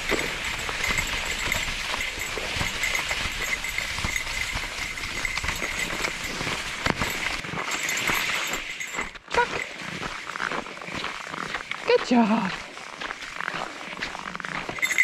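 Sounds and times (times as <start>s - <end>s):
footsteps crunching in snow: 0.0s - 15.0s
sled runners sliding over snow: 0.0s - 15.0s.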